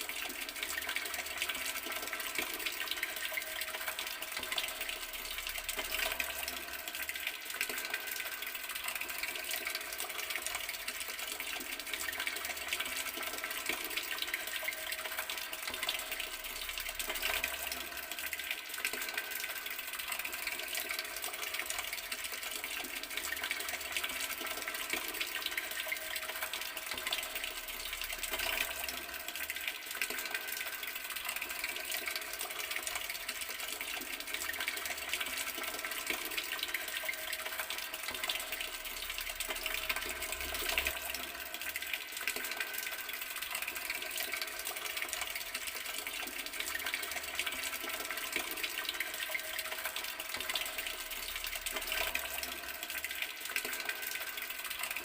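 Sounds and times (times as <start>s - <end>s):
water running from a tap: 0.0s - 55.0s.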